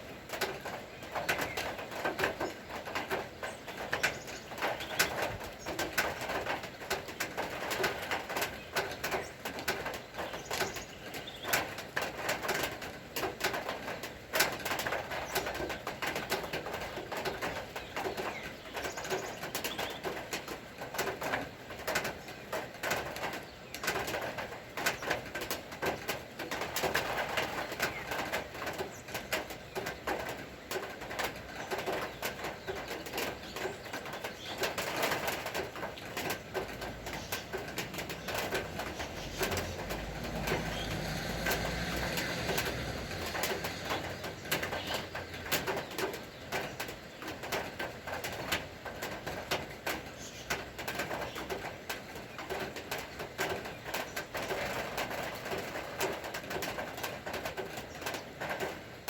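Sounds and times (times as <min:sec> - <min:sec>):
rain dripping and tapping: 0:00.0 - 0:59.0.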